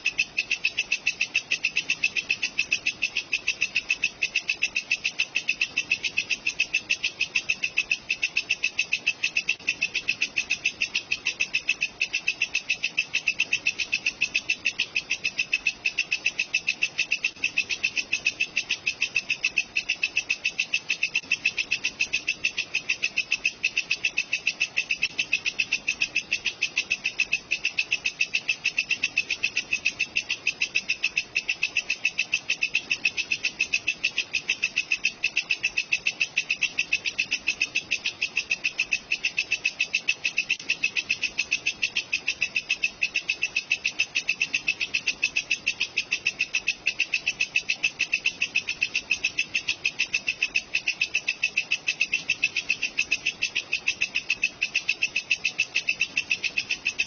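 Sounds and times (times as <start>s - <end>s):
katydid chirping: 0.0s - 57.0s.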